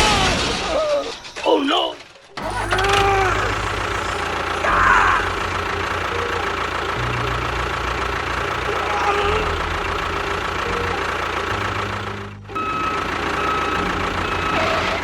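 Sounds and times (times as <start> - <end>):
engine throbbing: 2.1 - 15.0.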